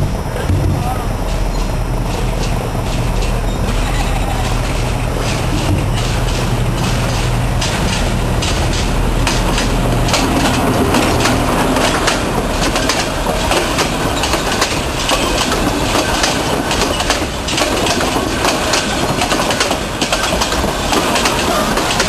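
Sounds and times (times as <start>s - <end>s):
low engine drone: 0.0s - 21.9s
train wheels clattering over rail joints: 0.0s - 22.0s.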